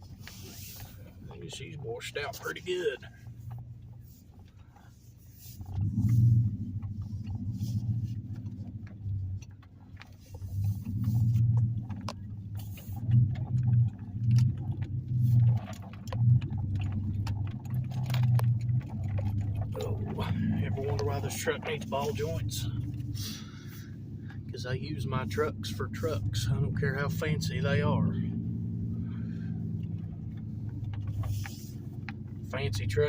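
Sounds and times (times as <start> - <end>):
rattles and knocks over bumps: 0.0 - 33.0
truck engine drone: 0.0 - 33.0.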